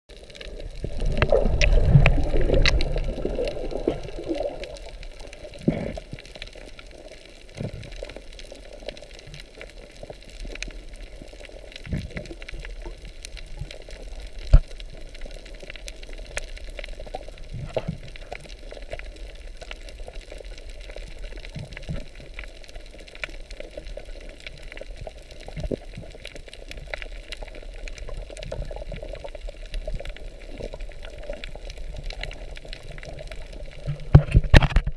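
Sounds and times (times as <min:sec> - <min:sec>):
muffled underwater gurgling: 0:00.1 - 0:34.9
small clicks and pops: 0:00.1 - 0:34.9.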